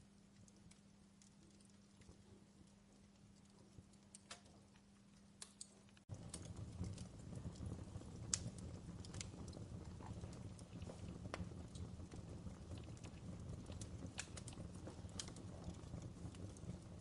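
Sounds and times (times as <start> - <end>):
fireplace crackling: 0.0 - 17.0
low rumble of burning fire: 0.0 - 17.0.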